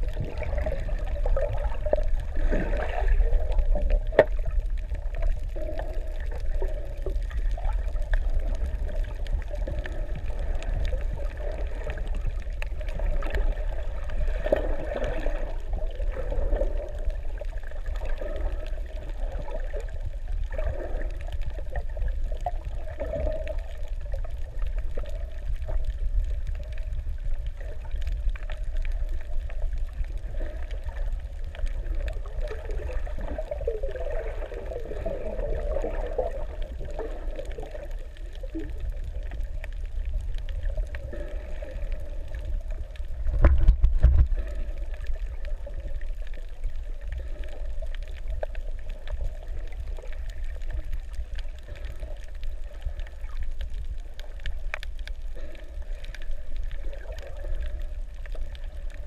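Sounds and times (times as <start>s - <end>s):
faint water gurgling: 0.0s - 59.0s
low water surge: 0.0s - 59.0s
muffled underwater rumble: 0.0s - 59.0s.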